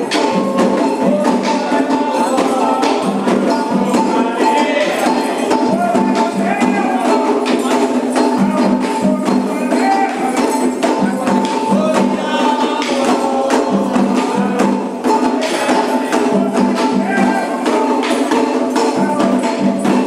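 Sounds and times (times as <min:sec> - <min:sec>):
chanted voices: 0:00.0 - 0:20.0
hand percussion: 0:00.0 - 0:20.0.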